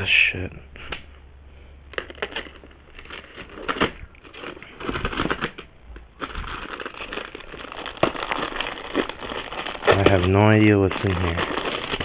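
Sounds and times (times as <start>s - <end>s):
plastic packaging crinkling: 1.8s - 12.0s.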